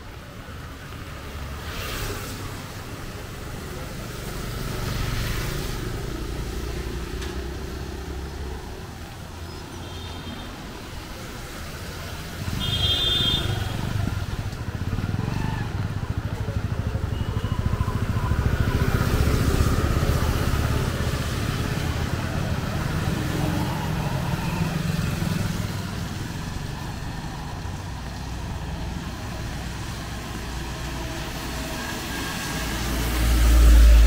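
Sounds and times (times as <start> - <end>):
vehicles passing on wet road: 0.0 - 34.0.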